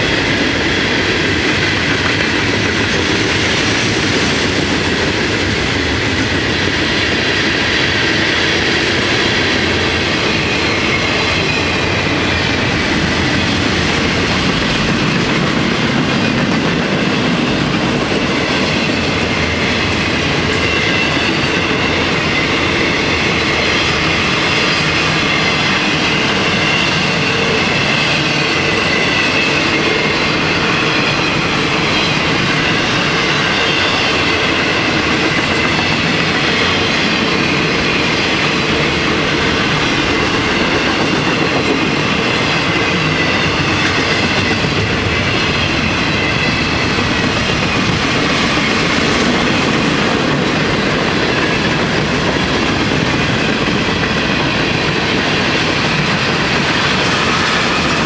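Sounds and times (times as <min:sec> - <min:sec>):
train wheels rolling on rail: 0:00.0 - 0:58.0.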